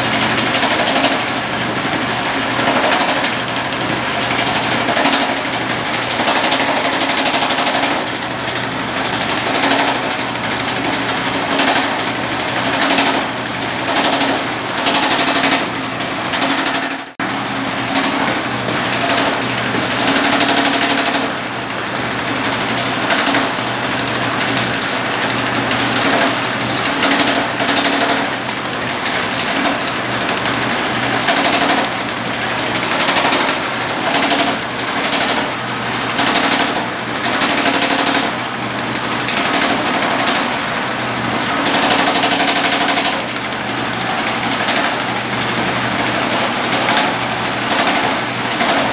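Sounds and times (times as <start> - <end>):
power hammer pounding sheet steel: 0.0 - 48.9
steady machine hum: 0.0 - 48.9.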